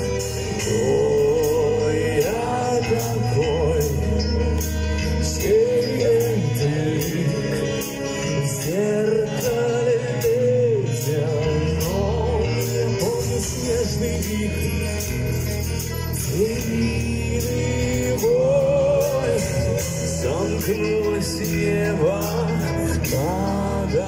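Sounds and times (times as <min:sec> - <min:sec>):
man singing with vibrato: 0:00.0 - 0:24.0
rock band playing: 0:00.0 - 0:24.0.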